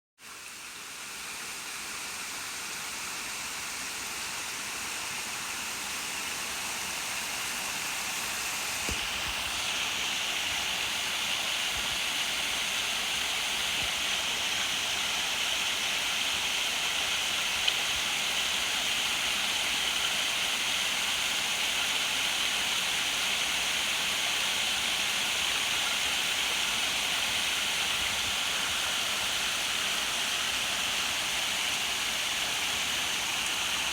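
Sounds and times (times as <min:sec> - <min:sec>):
rushing water: 0:00.3 - 0:33.9.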